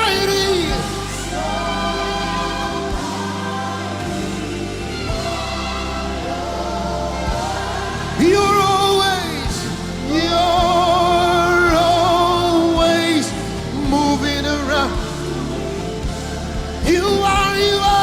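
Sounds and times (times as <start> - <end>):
band accompaniment: 0.0 - 18.0.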